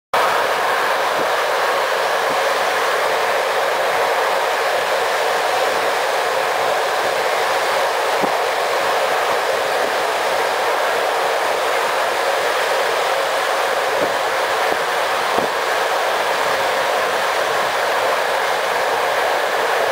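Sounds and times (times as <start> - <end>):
train ride rushing noise: 0.2 - 19.9.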